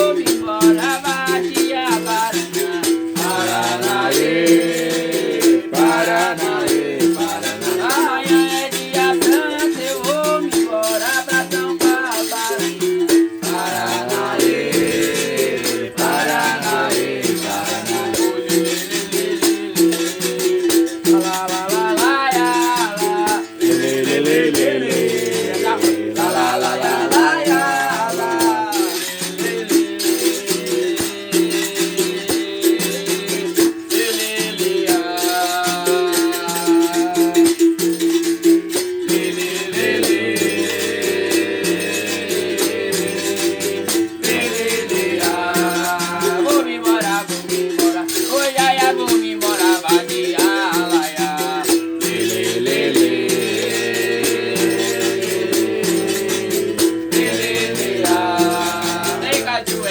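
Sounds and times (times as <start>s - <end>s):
berimbau playing: 0.0s - 31.0s, 31.8s - 59.9s
person singing: 0.0s - 59.9s
shaken rattle: 0.0s - 59.9s.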